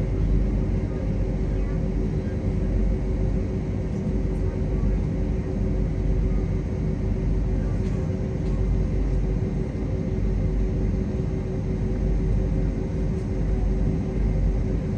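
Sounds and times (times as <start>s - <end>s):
constant low whine: 0.0s - 14.9s.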